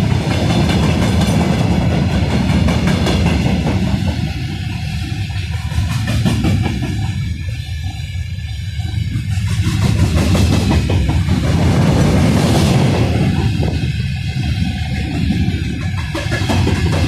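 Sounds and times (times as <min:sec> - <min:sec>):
wheels clicking over rail joints: 0:00.0 - 0:08.1, 0:08.8 - 0:17.0
train hiss: 0:00.0 - 0:17.0
train wheels rumbling on rails: 0:00.0 - 0:17.0.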